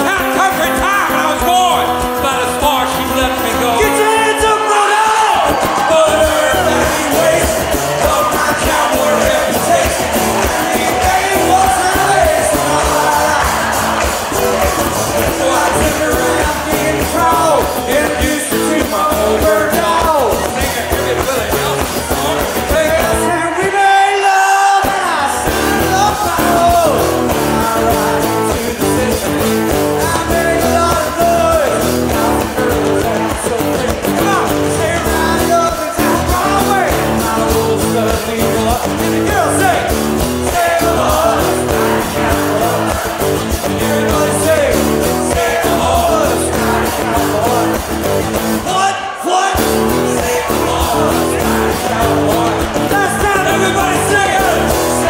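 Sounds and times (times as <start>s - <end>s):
backing voices singing: 0.0s - 55.0s
country-rock band playing: 0.0s - 55.0s
drums: 0.0s - 55.0s
man singing lead: 0.0s - 55.0s
strummed acoustic guitars: 0.0s - 55.0s.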